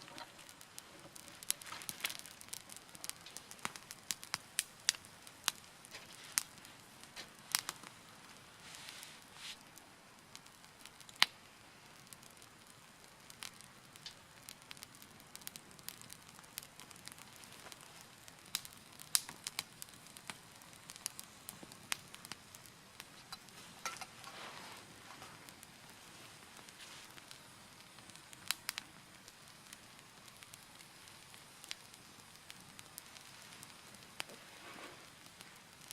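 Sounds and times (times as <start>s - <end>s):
fire hissing: 0.0s - 35.9s
wood fire crackling and popping: 0.0s - 35.9s.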